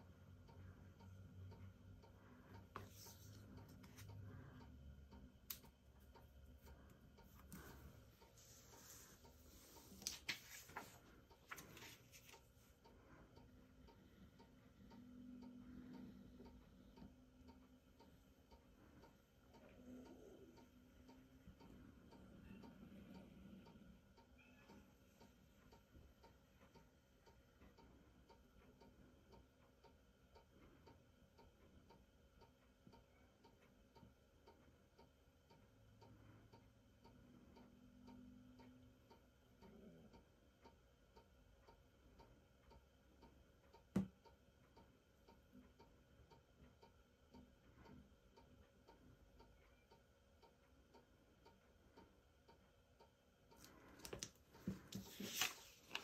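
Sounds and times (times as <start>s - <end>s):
steady ticking: 0.0s - 56.0s.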